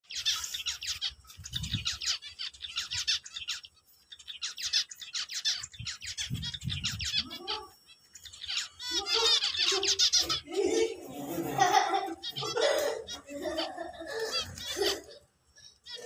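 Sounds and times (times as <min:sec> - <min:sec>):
zebra finches chattering: 0:00.0 - 0:16.0.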